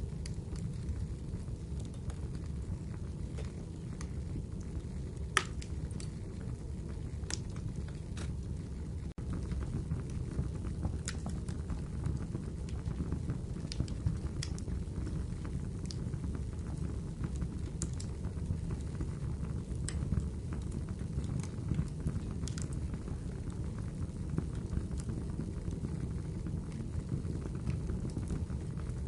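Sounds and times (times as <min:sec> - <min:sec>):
fire crackling and popping: 0:00.0 - 0:29.0
fire flames rumbling: 0:00.0 - 0:29.0.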